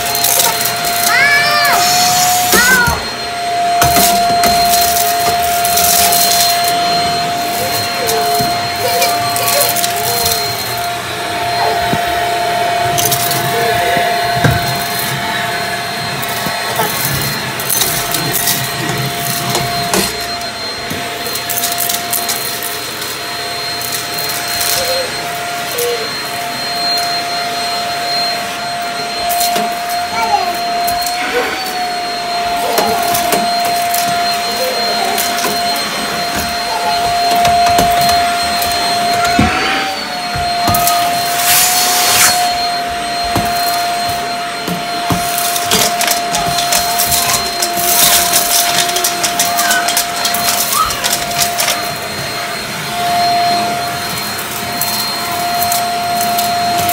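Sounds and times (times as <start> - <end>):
debris crackling up vacuum wand: 0.0 - 27.1, 29.1 - 52.8, 53.8 - 56.9
vacuum cleaner motor whine: 0.0 - 56.9.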